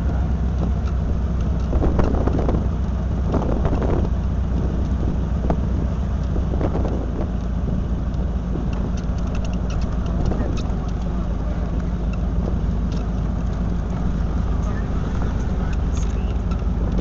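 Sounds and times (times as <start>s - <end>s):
cart drivetrain hum: 0.0s - 17.0s
road noise: 0.0s - 17.0s
wind: 0.0s - 17.0s.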